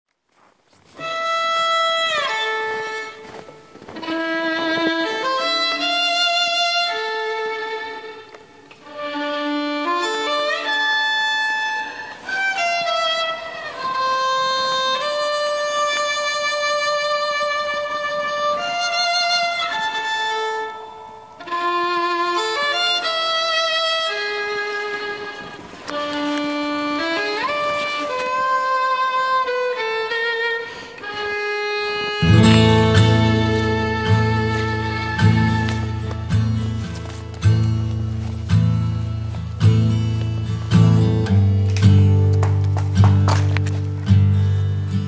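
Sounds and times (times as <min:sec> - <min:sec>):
slow bowed fiddle melody: 0:00.3 - 0:42.7.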